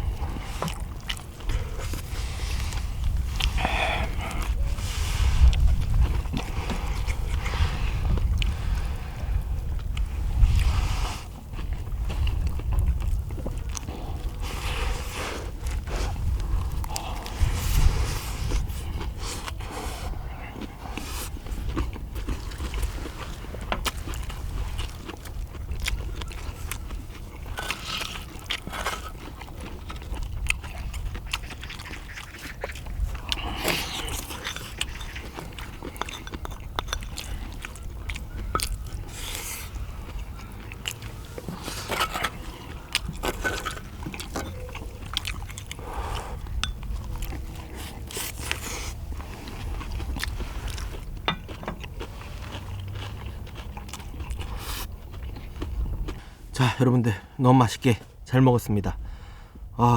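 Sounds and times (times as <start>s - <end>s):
chewing and biting: 0.0s - 57.3s.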